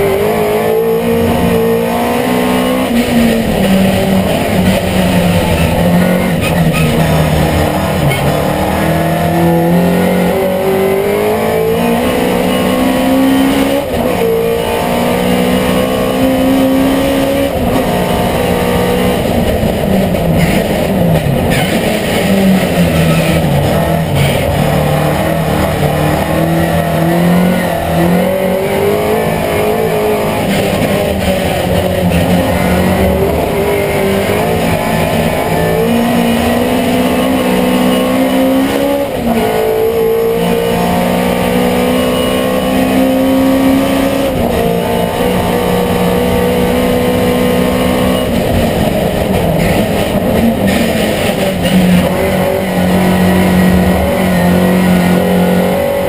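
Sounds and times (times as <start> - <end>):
racing car engine at full throttle: 0.0 - 56.0.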